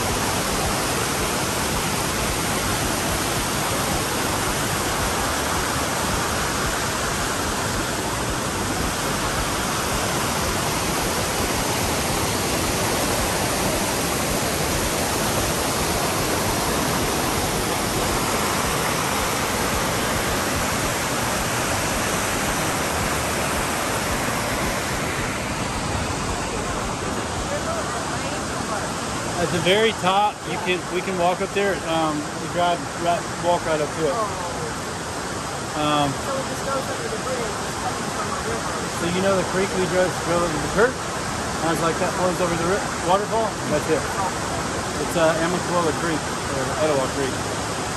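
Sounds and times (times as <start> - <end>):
creek rushing over boulders: 0.0 - 47.9.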